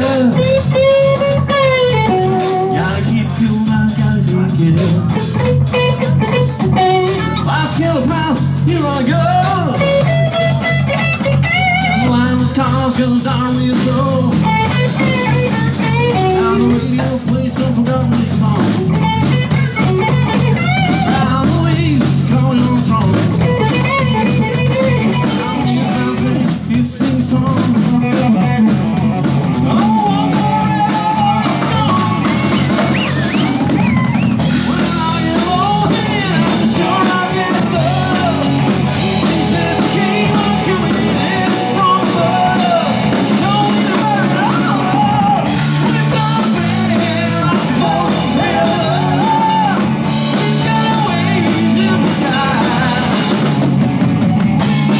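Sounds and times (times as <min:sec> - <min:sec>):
drum kit groove: 0:00.0 - 0:54.9
electric bass: 0:00.0 - 0:54.9
guitar-like melodic line: 0:00.0 - 0:54.9.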